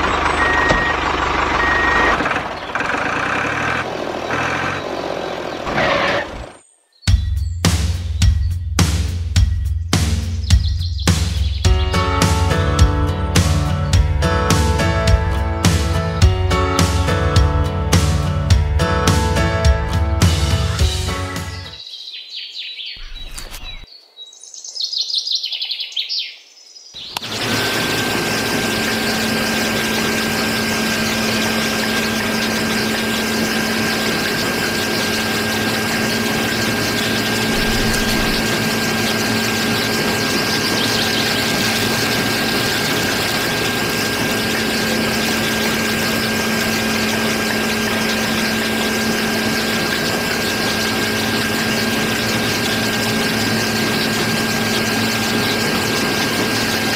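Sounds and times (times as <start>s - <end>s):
steady machine drone: 0.0s - 6.5s, 11.8s - 21.7s, 27.2s - 56.9s
bird-like chirps: 0.0s - 8.8s, 9.4s - 12.0s, 21.3s - 27.3s, 28.3s - 56.9s.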